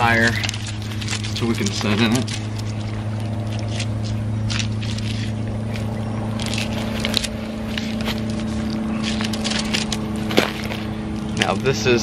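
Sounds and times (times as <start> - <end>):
straps and carabiners rustling: 0.0 - 11.6
low machine hum: 0.0 - 12.0.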